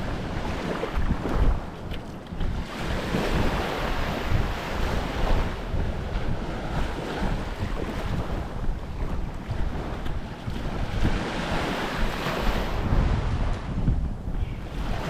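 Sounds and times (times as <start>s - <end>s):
small waves washing on beach: 0.0s - 15.0s
wind buffeting microphone: 0.0s - 15.0s.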